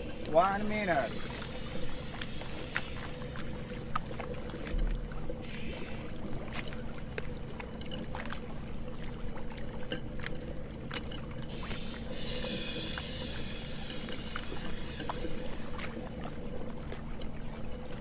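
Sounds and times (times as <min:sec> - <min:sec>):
low engine hum: 0:00.0 - 0:18.0
water noise: 0:00.0 - 0:18.0.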